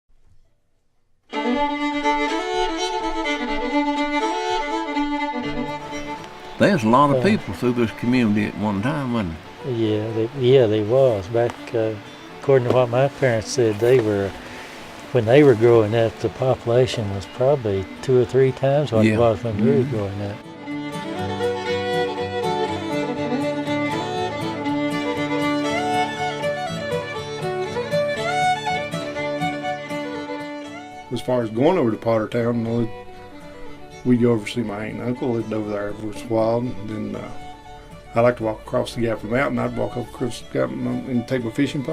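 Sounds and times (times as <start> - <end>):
fiddle playing a tune: 1.3 - 41.9.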